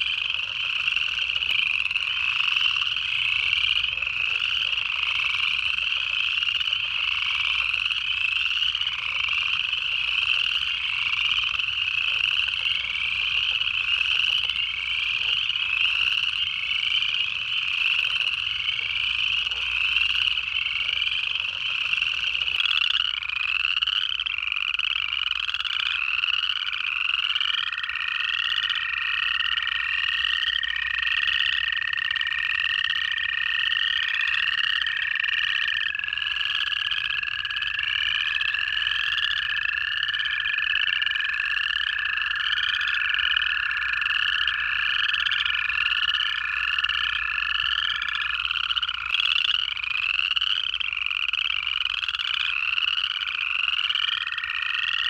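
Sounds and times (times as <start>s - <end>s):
frogs giving rising trills: 0.0s - 55.0s
toads giving long trills: 0.0s - 55.0s.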